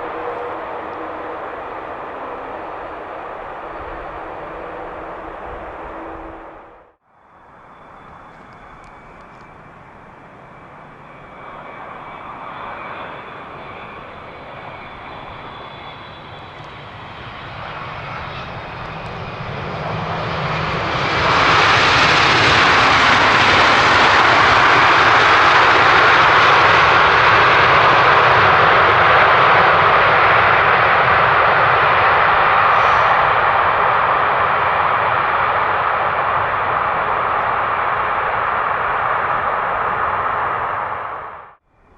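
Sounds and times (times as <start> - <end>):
jet airliner engines on approach: 0.0 - 41.9.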